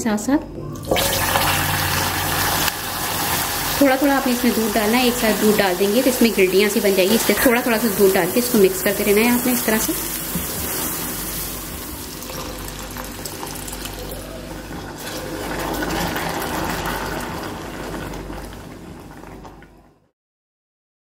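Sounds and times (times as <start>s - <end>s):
milk hissing and bubbling in pan: 0.9s - 19.7s.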